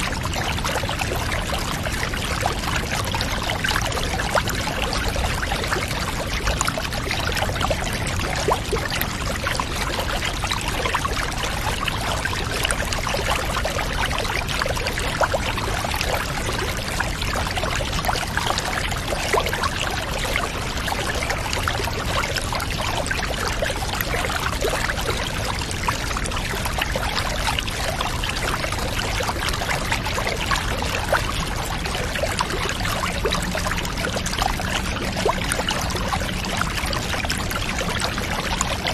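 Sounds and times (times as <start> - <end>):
water pouring into a bathtub: 0.0 - 38.9.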